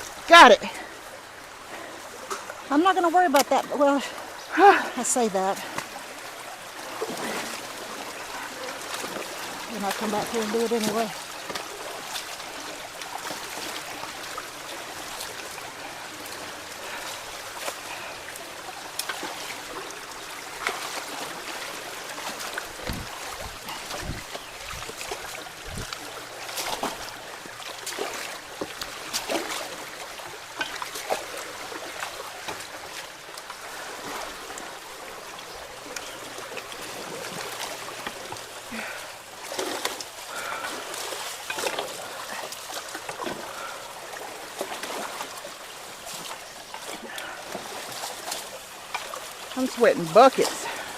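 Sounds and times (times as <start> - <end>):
water rushing through culvert: 0.0 - 50.9
splashes and knocks: 1.7 - 50.9.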